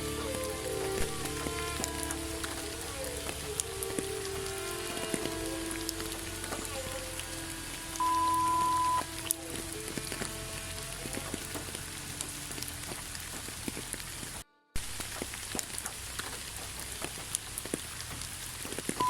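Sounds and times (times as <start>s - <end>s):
rain drops pattering: 0.0s - 19.0s.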